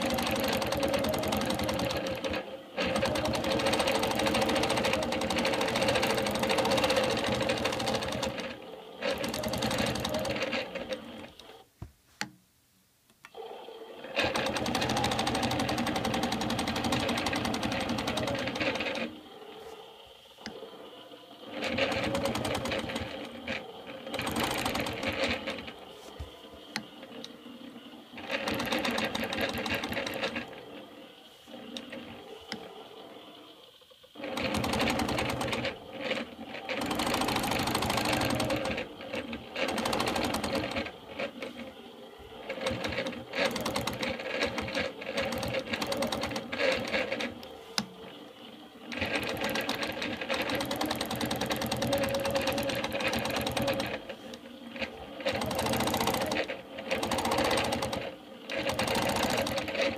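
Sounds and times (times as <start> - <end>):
quilting machine stitching: 0.0 - 12.4, 13.3 - 59.9.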